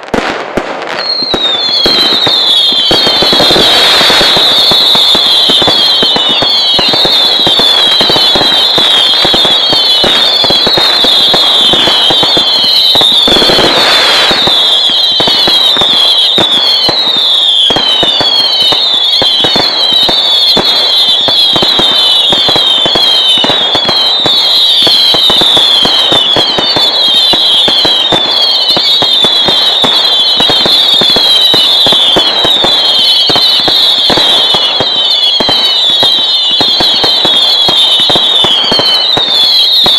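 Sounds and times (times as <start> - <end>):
falling fireworks whistles: 0.0 - 39.9
fireworks blast: 0.0 - 39.9
fireworks crackling and banging: 0.0 - 39.9.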